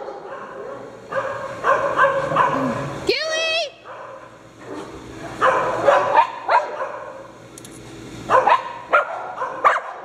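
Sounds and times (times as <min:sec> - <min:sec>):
dog barking: 0:00.0 - 0:02.9, 0:03.8 - 0:07.3, 0:08.3 - 0:10.0.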